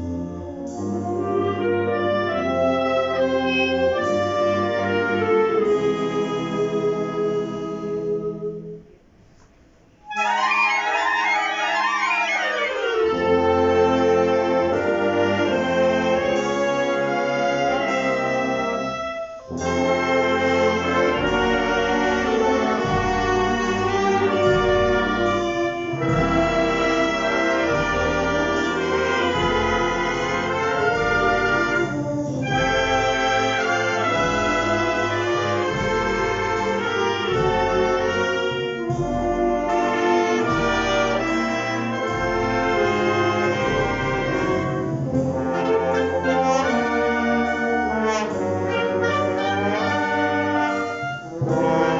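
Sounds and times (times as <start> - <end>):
wind band playing: 0.0 - 9.0, 9.9 - 51.9.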